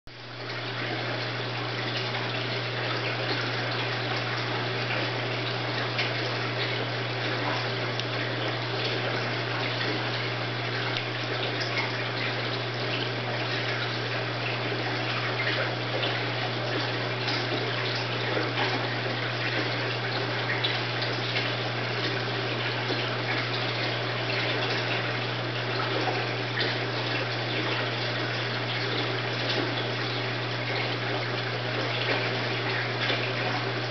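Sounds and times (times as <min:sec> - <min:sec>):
water trickling: 0:00.1 - 0:33.9.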